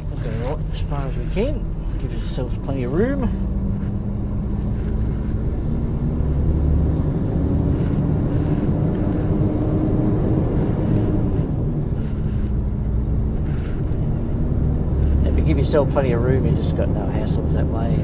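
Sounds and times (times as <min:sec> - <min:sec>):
truck engine from inside cab: 0:00.0 - 0:18.0.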